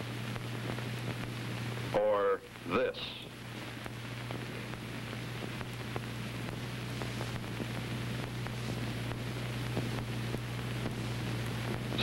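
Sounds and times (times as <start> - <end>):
faint crackles: 0.0 - 12.0
film soundtrack hiss and hum: 0.0 - 12.0.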